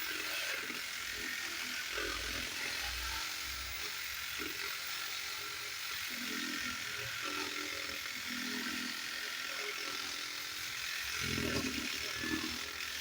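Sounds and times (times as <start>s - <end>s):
power saw cutting wood: 0.0s - 13.0s.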